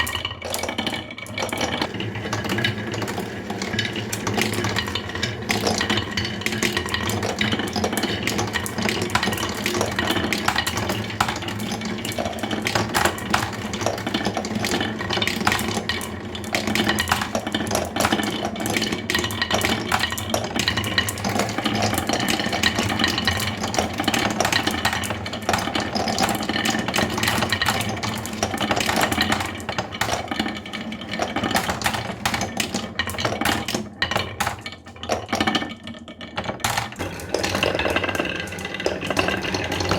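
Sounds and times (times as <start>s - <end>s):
clattering of small hard pieces: 0.0s - 39.9s.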